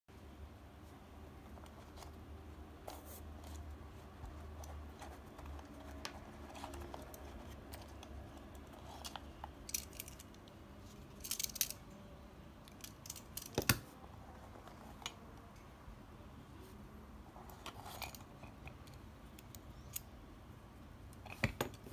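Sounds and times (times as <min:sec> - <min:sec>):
low steady hum: 0:00.1 - 0:21.9.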